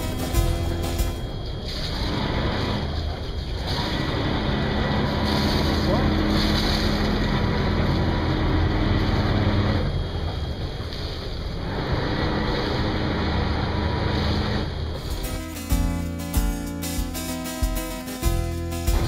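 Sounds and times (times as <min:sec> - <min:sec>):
boat engine and bow thruster: 0:00.0 - 0:19.0
steady hum: 0:00.0 - 0:19.0
water churning: 0:00.0 - 0:19.0.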